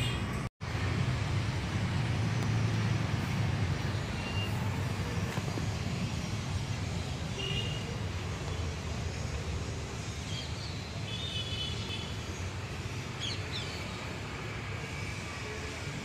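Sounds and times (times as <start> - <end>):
distant city traffic rumble: 0.0 - 16.0.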